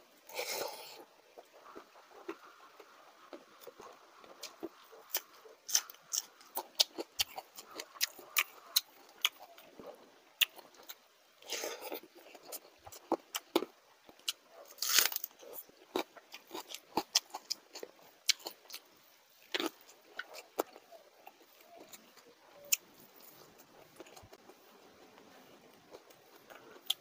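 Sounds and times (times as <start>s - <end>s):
person chewing food: 0.2s - 27.0s.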